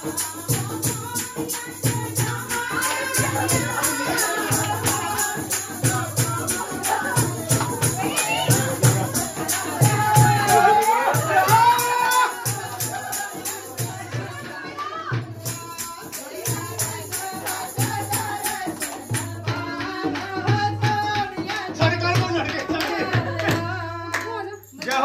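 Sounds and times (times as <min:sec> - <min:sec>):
hand-clapping: 0:00.0 - 0:14.2, 0:14.8 - 0:25.0
hand drum beat: 0:00.0 - 0:24.3
group devotional singing: 0:00.0 - 0:25.0
jingling percussion: 0:00.0 - 0:25.0.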